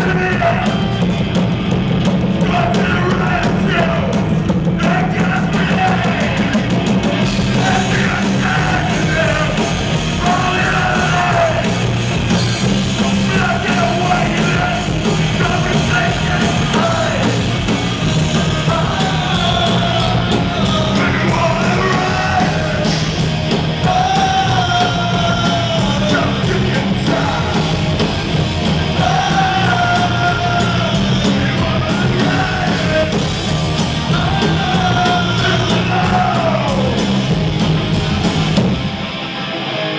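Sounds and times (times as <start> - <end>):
singer yelling and singing: 0.0 - 1.0, 2.3 - 38.2
punk rock band playing: 0.0 - 39.9.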